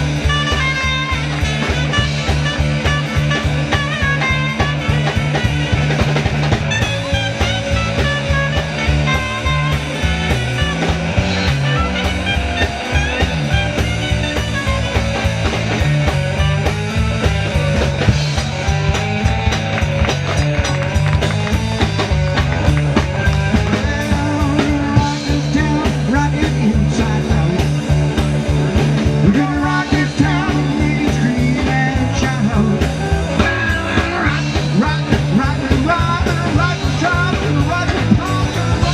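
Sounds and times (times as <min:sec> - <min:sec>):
bass line: 0:00.0 - 0:38.9
drum beat: 0:00.0 - 0:38.9
electric guitar playing: 0:00.0 - 0:38.9.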